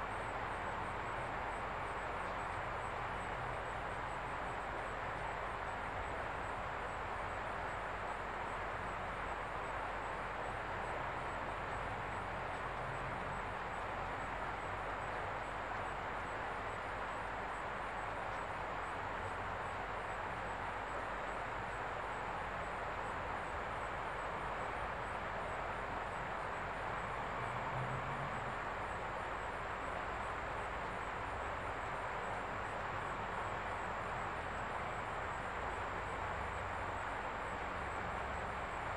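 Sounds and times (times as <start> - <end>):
faint high steady whine: 0.0 - 38.9.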